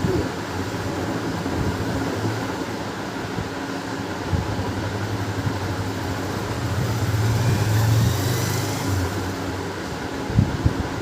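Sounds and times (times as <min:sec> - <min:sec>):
low mechanical hum with hiss: 0:00.0 - 0:11.0.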